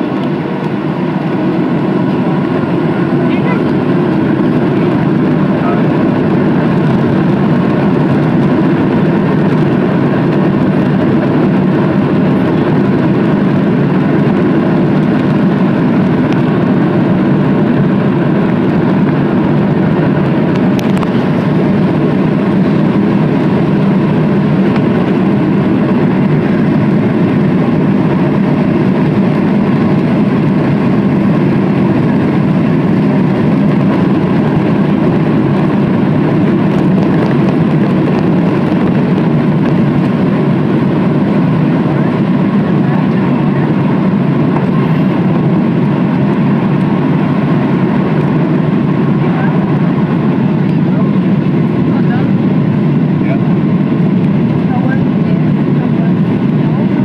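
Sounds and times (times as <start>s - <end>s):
jet engines rumbling from cabin: 0.0s - 57.0s.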